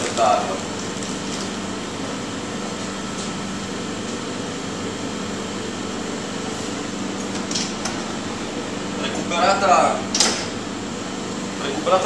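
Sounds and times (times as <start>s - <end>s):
kitchen machinery fan humming: 0.0s - 12.0s.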